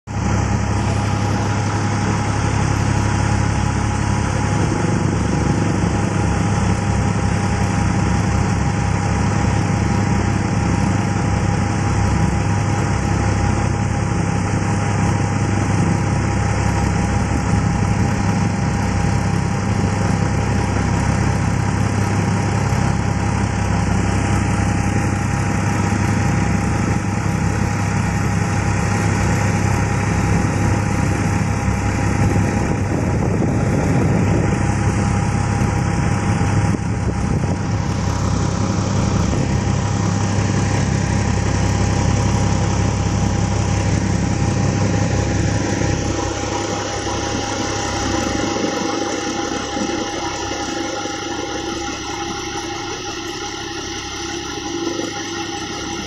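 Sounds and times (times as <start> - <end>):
tractor engine drone: 0.0 - 56.0
thin steady whine: 0.1 - 56.0
threshing drum spinning: 0.1 - 56.0.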